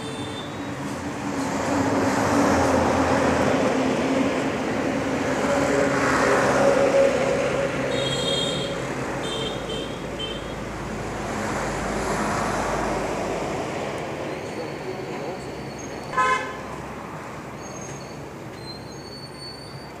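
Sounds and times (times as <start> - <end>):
traffic engines humming: 0.0 - 20.0.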